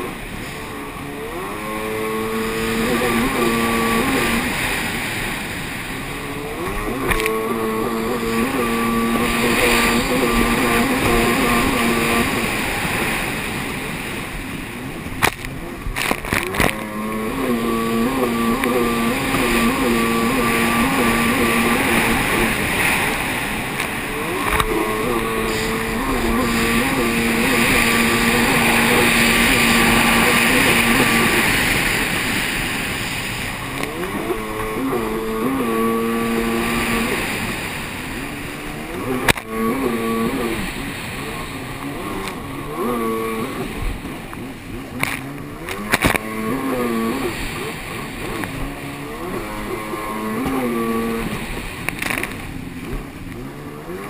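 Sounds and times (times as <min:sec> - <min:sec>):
jet ski engine running hard: 0:00.0 - 0:54.0
rush of wind and spray: 0:00.0 - 0:54.0.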